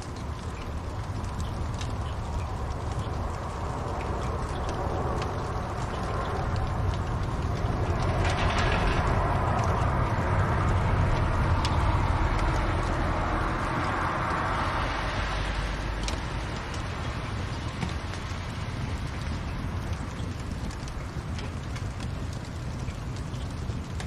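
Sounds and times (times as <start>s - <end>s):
fire burning in fireplace: 0.0s - 24.0s
fire crackles: 0.0s - 24.0s.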